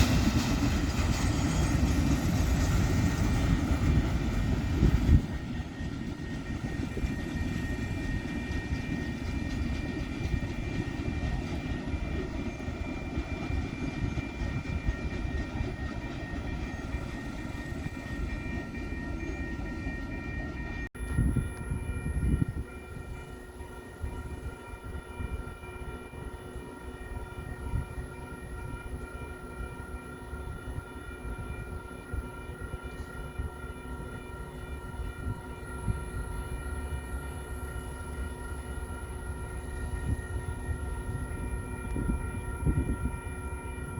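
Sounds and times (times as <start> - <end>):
faint steady tones: 0.0 - 43.9
train rolling on rails: 0.0 - 43.9.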